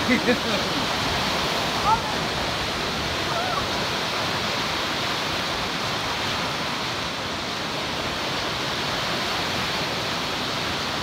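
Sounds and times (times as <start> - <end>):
waves crashing on beach: 0.0 - 11.0.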